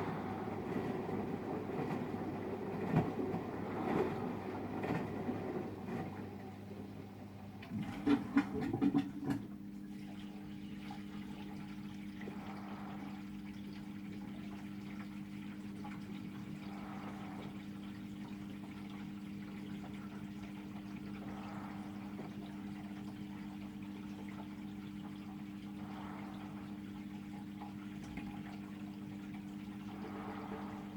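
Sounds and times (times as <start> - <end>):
washing machine electric hum: 0.0 - 30.9
water swishing in drum: 0.0 - 30.9.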